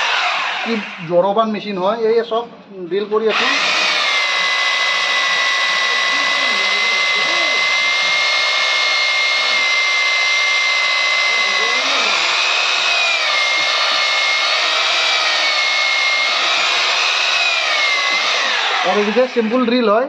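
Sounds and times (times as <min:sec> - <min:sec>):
drill motor whining: 0:00.0 - 0:01.2, 0:03.3 - 0:20.0.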